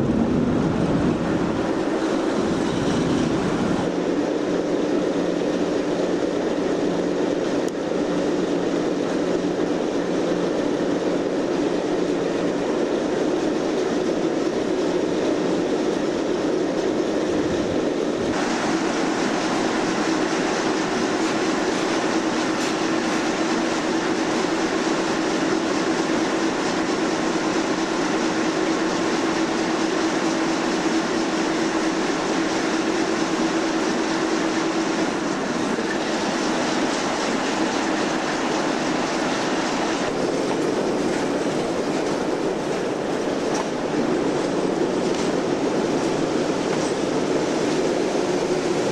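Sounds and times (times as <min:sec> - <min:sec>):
locomotive engine hum: 0:00.0 - 0:48.9
wheels on rail: 0:00.0 - 0:48.9.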